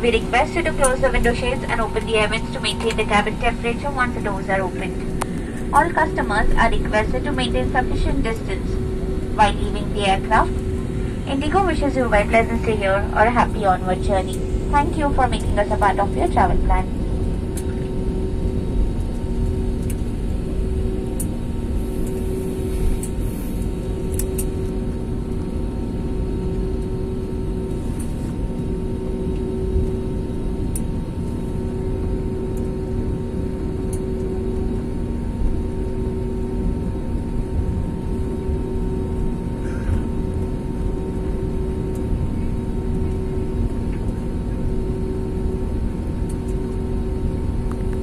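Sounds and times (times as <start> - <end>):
jet engines rumbling at idle: 0.0 - 48.0.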